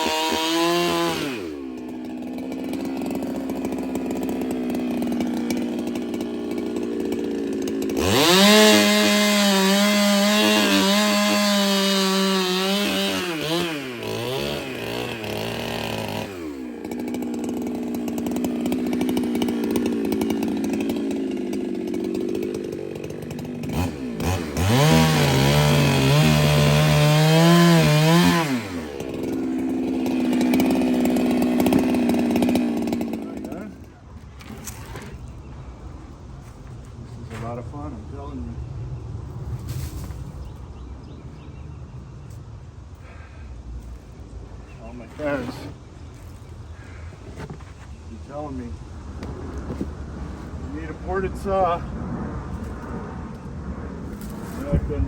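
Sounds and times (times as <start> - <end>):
chainsaw idling and revving: 0.0 - 38.6, 42.2 - 48.8, 50.6 - 51.9.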